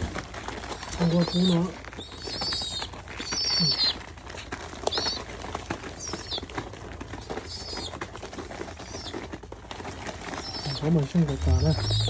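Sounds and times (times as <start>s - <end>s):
pigeon squeaking: 0.0s - 12.0s.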